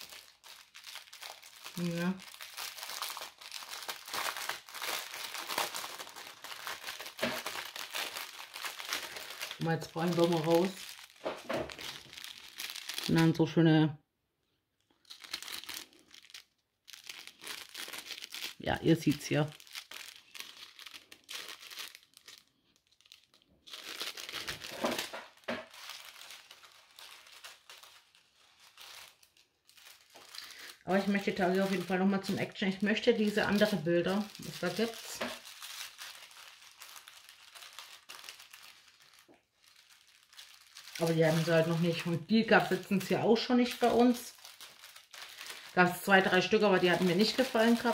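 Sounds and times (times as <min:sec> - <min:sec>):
plastic bag crinkling: 0:00.0 - 0:13.9, 0:14.7 - 0:47.9.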